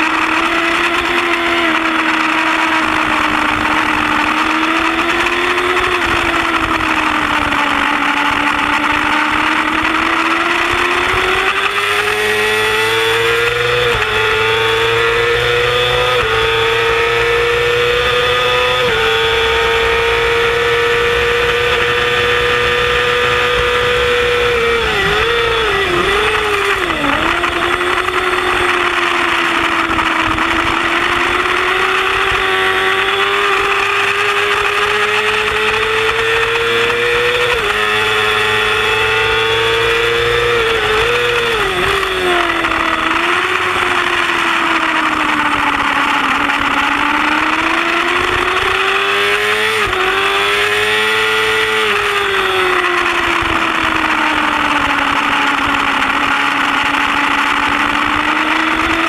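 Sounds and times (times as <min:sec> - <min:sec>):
motorcycle engine screaming: 0:00.0 - 0:59.0
wind noise: 0:00.0 - 0:59.0.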